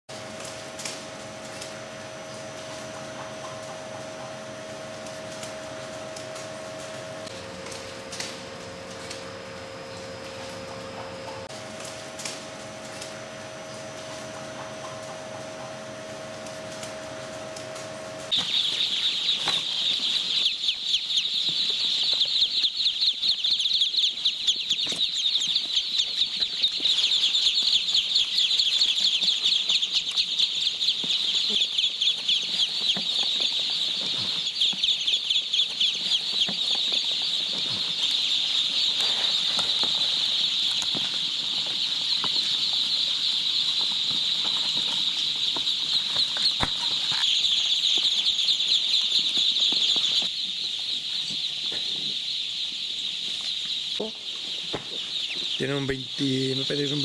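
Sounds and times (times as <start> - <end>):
ducklings peeping: 0.4 - 7.4, 8.1 - 57.0.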